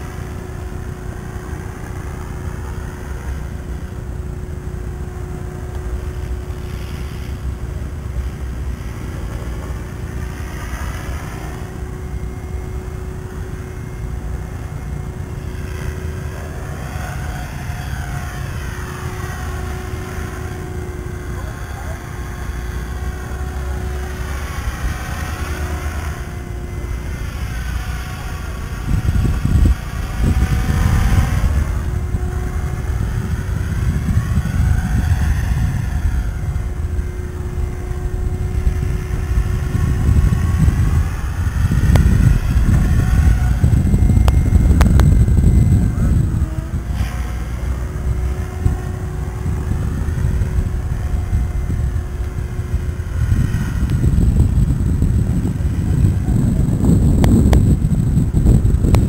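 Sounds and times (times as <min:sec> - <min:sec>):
model helicopter rotor whine: 0:00.0 - 0:59.0
wind rumbling on microphone: 0:00.0 - 0:59.0.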